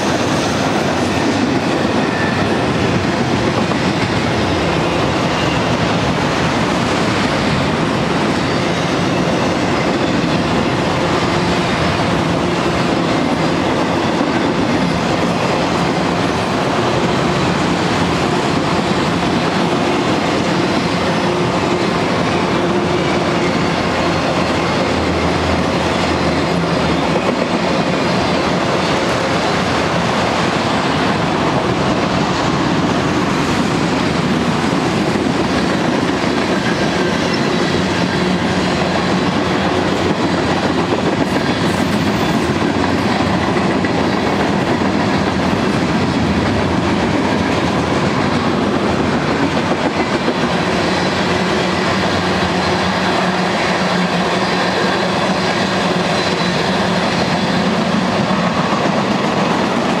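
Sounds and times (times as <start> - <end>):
freight train wheels clacking: 0.0 - 60.0.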